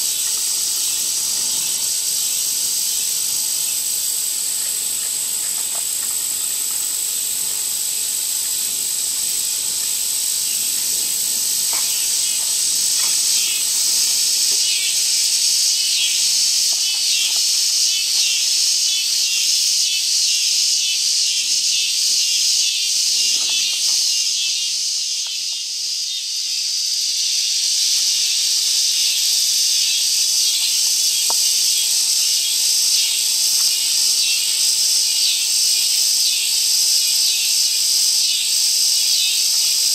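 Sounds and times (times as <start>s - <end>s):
insect drone: 0.0s - 39.9s
insect pulsing trill: 0.0s - 39.9s.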